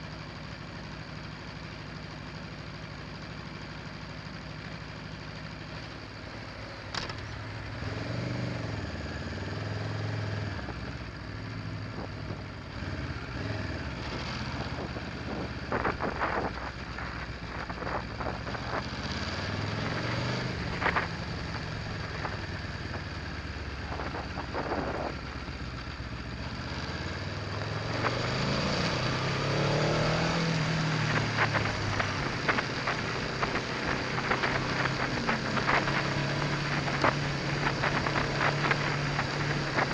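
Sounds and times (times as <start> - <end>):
motorcycle engine at low revs: 0.0 - 39.9.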